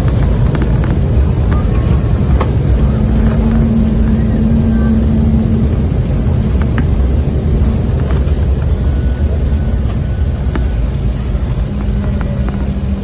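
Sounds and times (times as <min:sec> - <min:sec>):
airliner cabin rumble on runway: 0:00.0 - 0:13.0
steady hum: 0:00.0 - 0:13.0.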